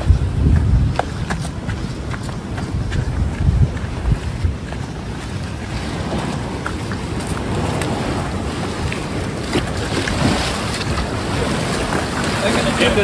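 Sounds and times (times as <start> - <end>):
waves breaking on rocks: 0.0 - 13.0
wind buffeting microphone: 0.0 - 13.0.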